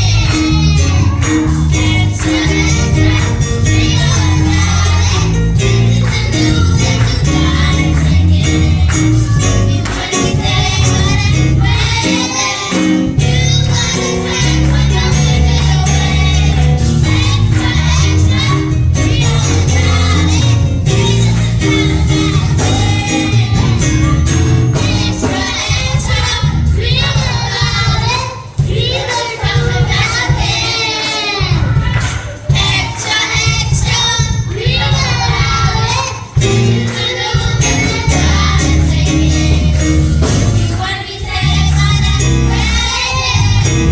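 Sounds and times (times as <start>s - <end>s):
band with heavy bass: 0.0s - 30.5s, 31.3s - 43.9s
church choir singing: 0.0s - 43.9s.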